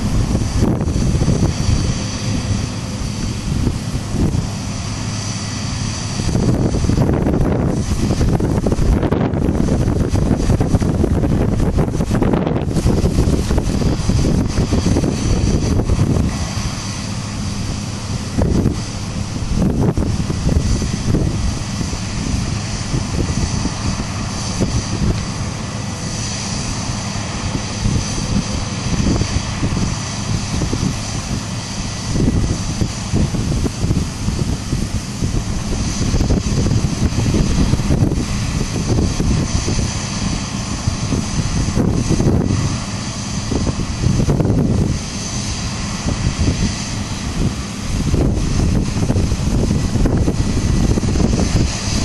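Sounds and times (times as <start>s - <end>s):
diesel engine drone: 0.0s - 52.0s
faint high whine: 0.0s - 52.0s
mechanical whir: 0.0s - 52.0s
wind buffeting microphone: 0.0s - 52.0s.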